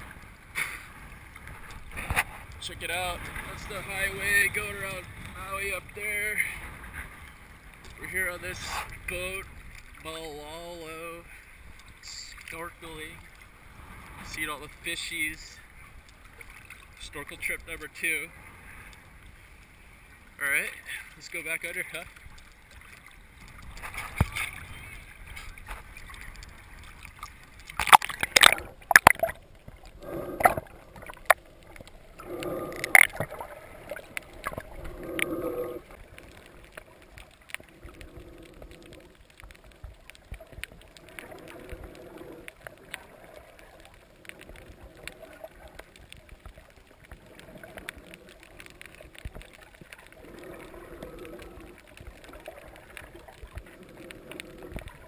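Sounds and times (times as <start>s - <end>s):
muffled underwater sound: 0.0s - 55.0s
water splashing: 0.0s - 55.0s.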